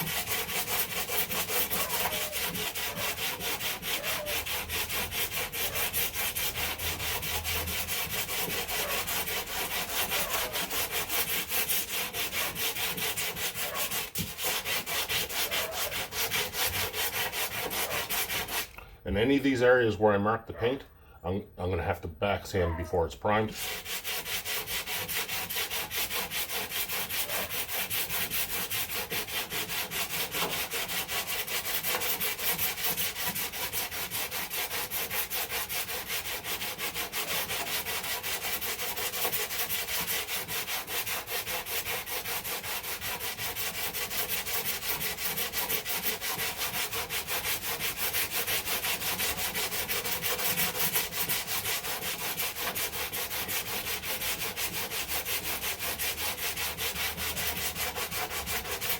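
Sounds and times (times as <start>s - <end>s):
sanding block rasping: 0.0s - 18.8s, 23.4s - 58.9s.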